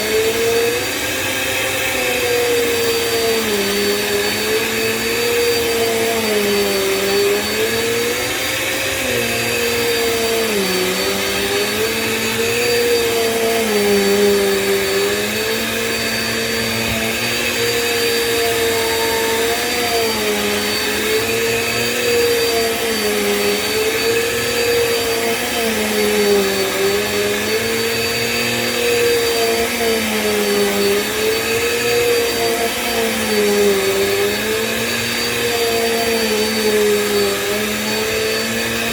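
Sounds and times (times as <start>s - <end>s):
vacuum cleaner running on a rug: 0.0s - 38.9s.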